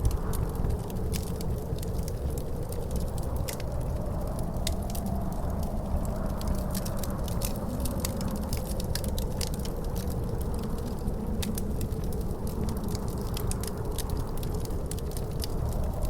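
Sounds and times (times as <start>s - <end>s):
wind howling: 0.0s - 16.0s
wind rumble: 0.0s - 16.0s
wood fire crackling: 0.0s - 16.0s.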